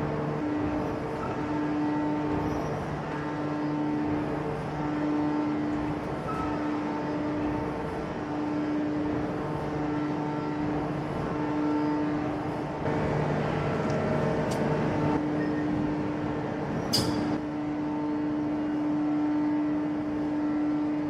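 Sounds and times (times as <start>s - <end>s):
humming tone: 0.0s - 21.0s.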